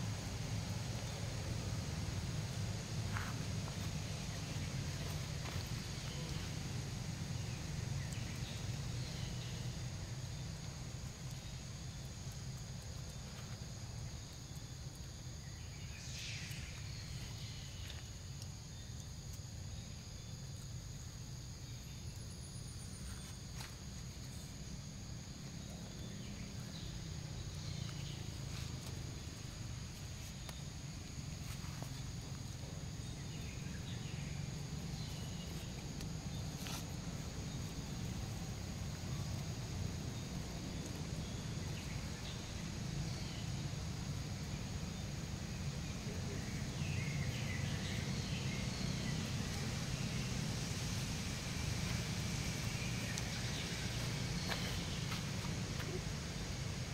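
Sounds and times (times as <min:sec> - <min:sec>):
hiss: 0:00.0 - 0:18.6, 0:23.0 - 0:56.9.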